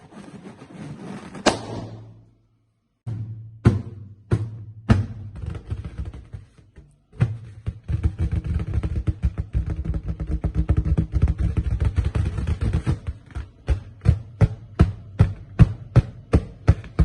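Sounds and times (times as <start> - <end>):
balloons popping: 0.0 - 2.4, 3.5 - 17.0.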